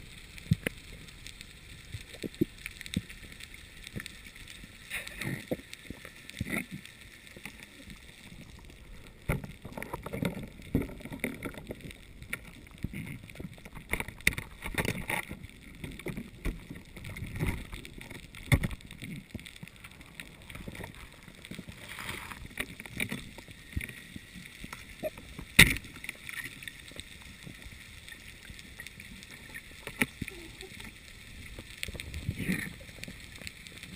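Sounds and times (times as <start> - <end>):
muffled underwater hiss: 0.0 - 33.9
knocks and clunks underwater: 4.9 - 33.9.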